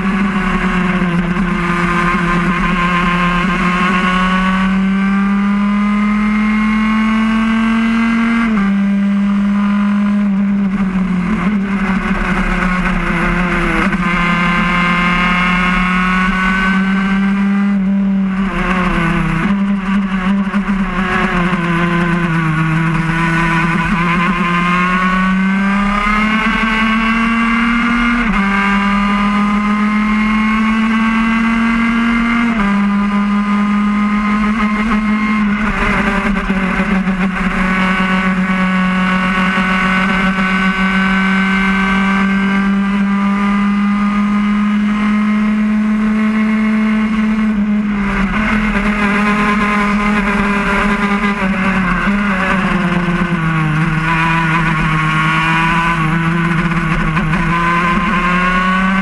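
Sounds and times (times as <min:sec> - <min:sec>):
kart engine accelerating and shifting: 0:00.0 - 0:59.0.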